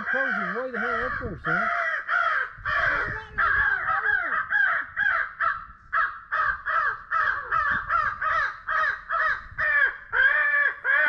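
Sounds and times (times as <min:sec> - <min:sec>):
crows cawing: 0:00.0 - 0:11.0.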